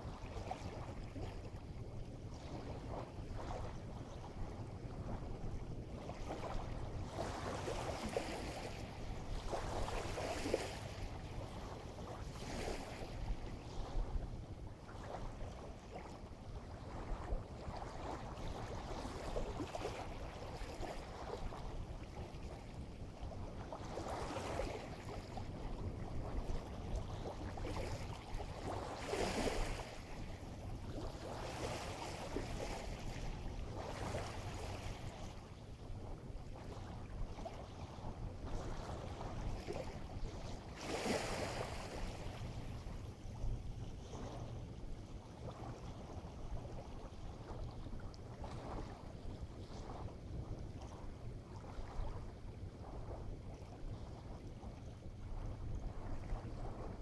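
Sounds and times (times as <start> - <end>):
waves washing ashore: 0.0 - 57.0.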